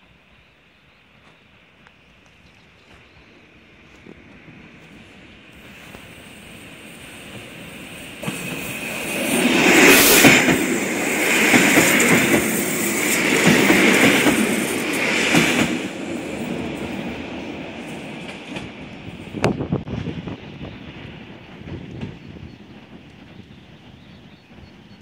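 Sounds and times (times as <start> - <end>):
train wheels rushing on rails: 1.1 - 25.0.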